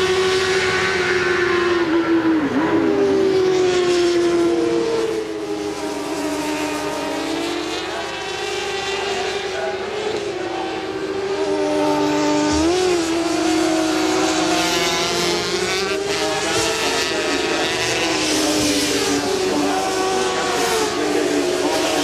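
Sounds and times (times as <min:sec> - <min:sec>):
racing motorcycles revving: 0:00.0 - 0:22.0.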